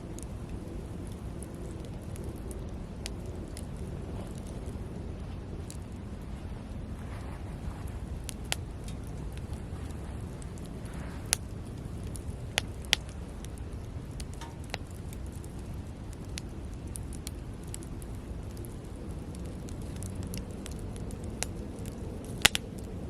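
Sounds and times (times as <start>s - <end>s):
campfire crackling and popping: 0.0s - 23.0s
low steady rumble: 0.0s - 23.0s.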